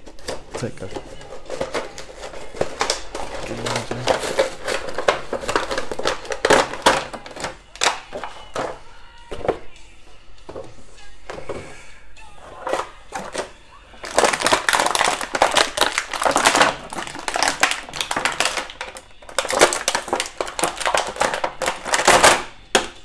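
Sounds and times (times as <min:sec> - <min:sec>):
plastic packaging crinkling: 0:00.0 - 0:09.7, 0:12.4 - 0:23.0.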